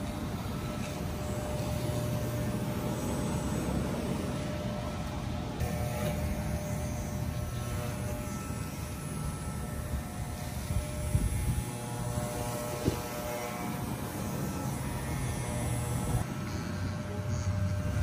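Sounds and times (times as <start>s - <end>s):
electric clippers buzzing: 0.0s - 18.0s.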